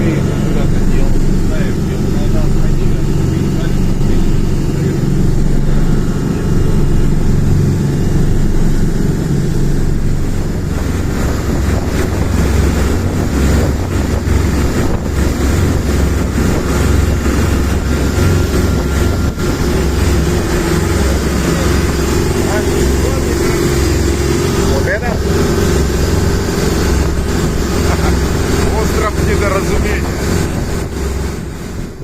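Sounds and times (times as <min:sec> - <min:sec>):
boat engine running: 0:00.0 - 0:32.0
wind on microphone: 0:00.0 - 0:32.0.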